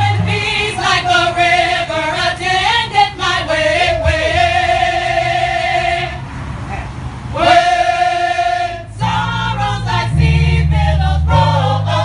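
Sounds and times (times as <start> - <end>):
choir singing a hymn: 0.0 - 6.6, 7.2 - 12.0.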